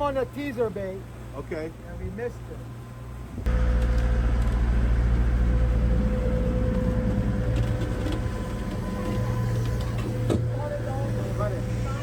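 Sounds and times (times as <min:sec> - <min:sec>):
boat engine droning: 0:00.0 - 0:12.0
faint constant whine: 0:00.0 - 0:12.0.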